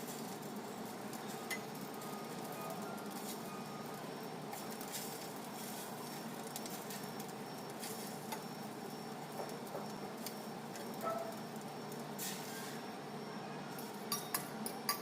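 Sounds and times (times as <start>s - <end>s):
small crackles and ticks: 0.0s - 12.2s
food sizzling in a pan: 0.0s - 13.1s.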